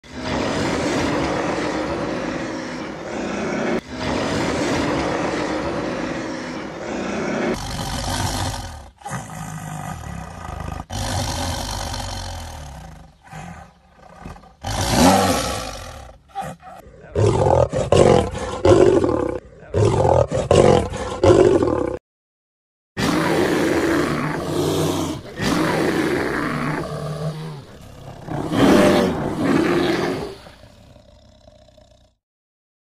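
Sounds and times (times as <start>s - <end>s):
big animal growling roar: 0.0s - 22.0s, 23.0s - 32.2s
tiger snarling and roaring: 0.0s - 22.0s, 23.0s - 32.2s.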